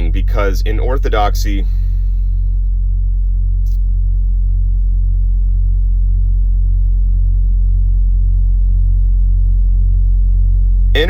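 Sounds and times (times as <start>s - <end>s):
deep low ambient drone: 0.0s - 11.0s.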